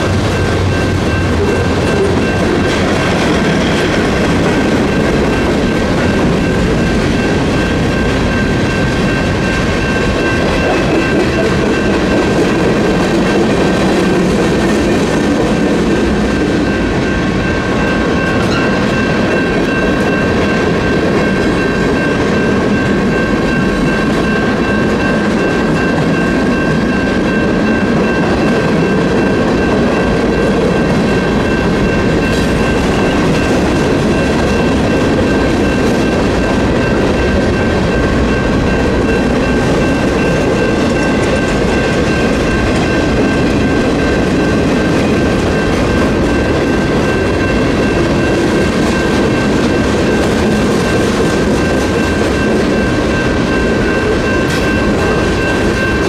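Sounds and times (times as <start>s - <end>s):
crossing bell ringing: 0.0s - 56.0s
train wheels on rails: 0.0s - 56.0s.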